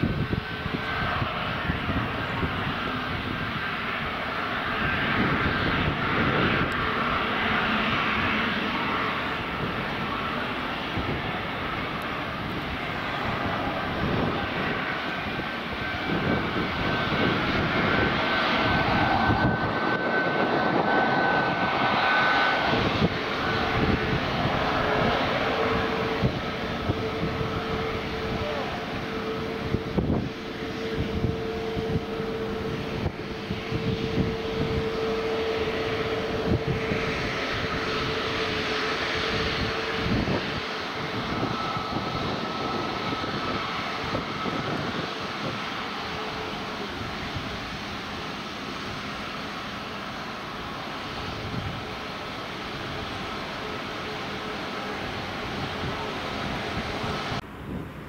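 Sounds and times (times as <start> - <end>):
low hum: 0.0 - 49.4
jet engines whining at taxi power: 0.0 - 58.0.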